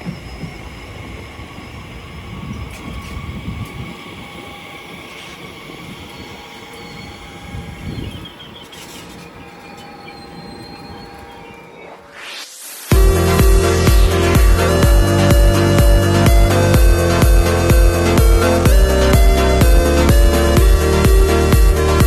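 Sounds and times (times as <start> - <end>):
high-pitched wheel tones: 0.0 - 22.0
train rumbling: 0.0 - 22.0.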